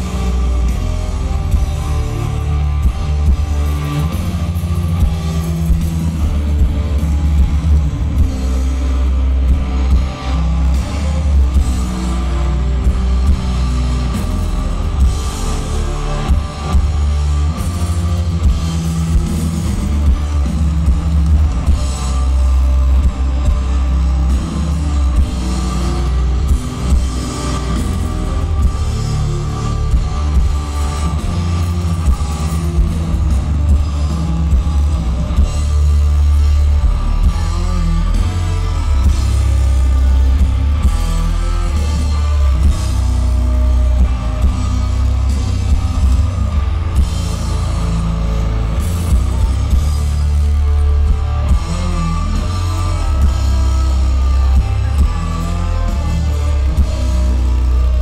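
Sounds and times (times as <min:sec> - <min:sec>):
deep bass: 0:00.0 - 0:58.0
live metal band: 0:00.0 - 0:58.0.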